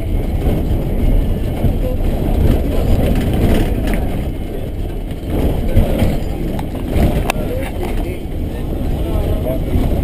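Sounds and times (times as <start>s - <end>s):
road and engine noise in cabin: 0.0s - 10.0s.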